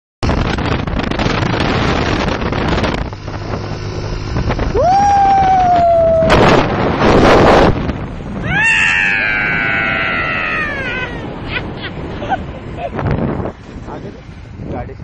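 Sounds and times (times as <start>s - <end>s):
loud gliding tone: 0.2s - 14.6s
low engine hum: 0.2s - 15.0s
wind buffeting microphone: 0.2s - 15.0s.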